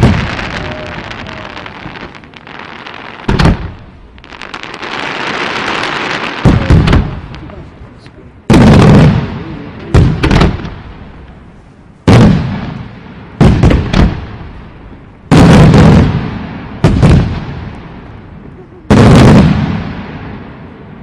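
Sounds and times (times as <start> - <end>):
fireworks booming with echo: 0.0 - 21.0.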